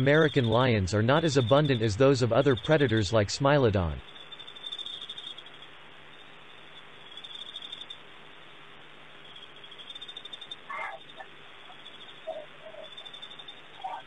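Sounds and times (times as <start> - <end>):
crickets chirping: 0.0 - 14.0
night ambience hiss: 0.0 - 14.0.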